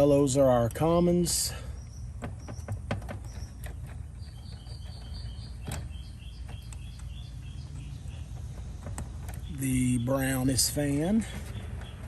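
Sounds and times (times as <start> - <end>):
bird chirping: 0.0 - 12.0
low outdoor rumble: 0.0 - 12.0.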